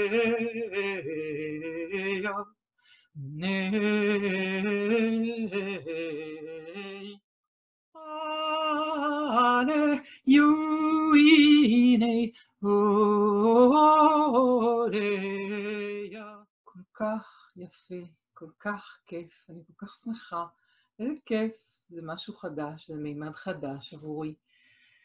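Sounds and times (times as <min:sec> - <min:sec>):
woman singing wordlessly: 0:00.0 - 0:02.6, 0:03.2 - 0:07.2, 0:08.0 - 0:24.4.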